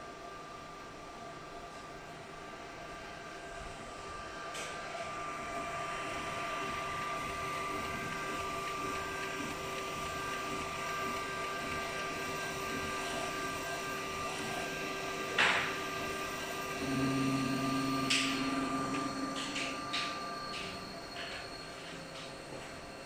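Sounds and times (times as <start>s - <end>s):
fan whining tones: 0.0s - 23.0s
printer mechanical hum: 0.1s - 23.0s.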